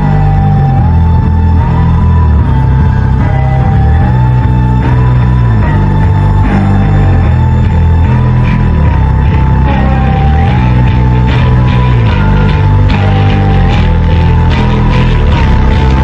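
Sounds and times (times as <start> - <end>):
heavy rock music: 0.0 - 16.0.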